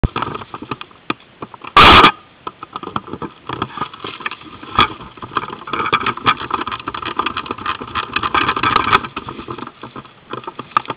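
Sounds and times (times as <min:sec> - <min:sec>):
sharp crack: 0:00.0 - 0:09.2
rustling in long grass: 0:00.0 - 0:10.9.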